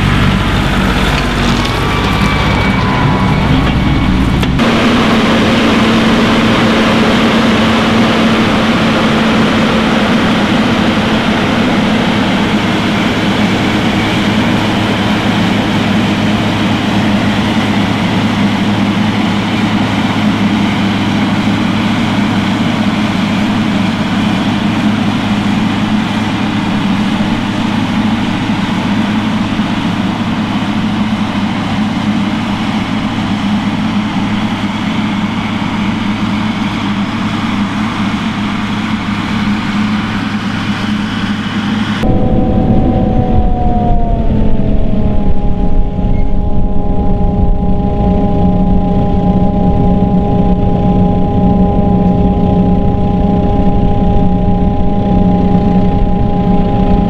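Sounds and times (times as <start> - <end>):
diesel farm machinery running: 0.0 - 57.0.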